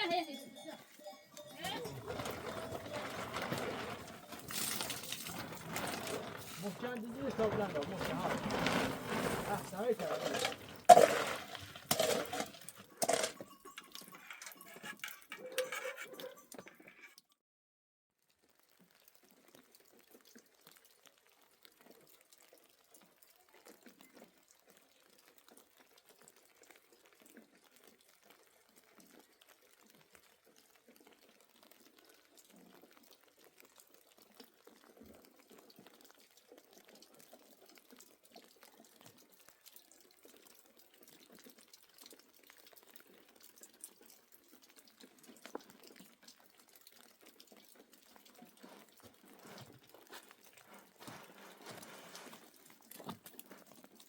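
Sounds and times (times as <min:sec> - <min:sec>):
water trickling and dripping: 0:00.0 - 0:17.2, 0:18.2 - 0:54.0.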